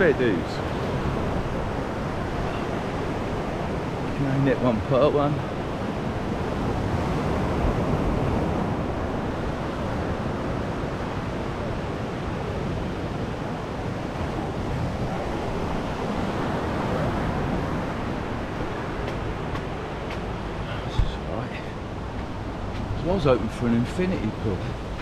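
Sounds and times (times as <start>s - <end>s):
sea surf washing onto beach: 0.0s - 25.0s
wind rumbling on microphone: 0.0s - 25.0s.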